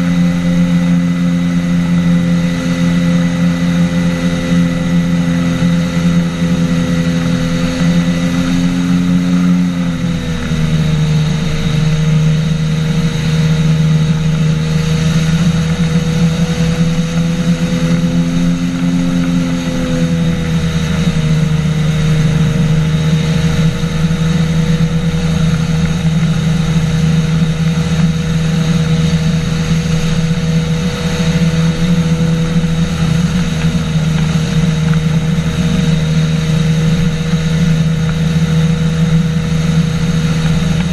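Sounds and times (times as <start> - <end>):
aircraft engine and propeller: 0.0 - 40.9.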